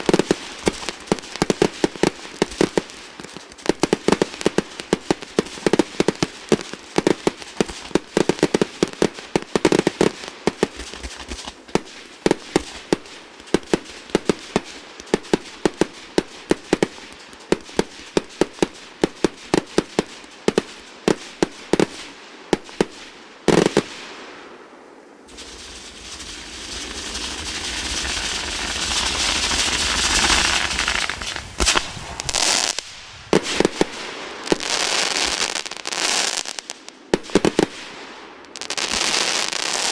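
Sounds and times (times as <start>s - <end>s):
fireworks bangs: 0.0s - 22.0s, 25.3s - 39.9s
fireworks crackling hiss: 0.0s - 39.9s.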